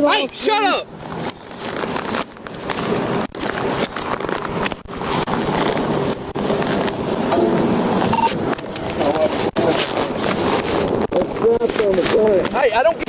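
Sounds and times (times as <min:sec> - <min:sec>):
highway traffic: 0:00.0 - 0:13.0
wind buffeting microphone: 0:00.8 - 0:13.0.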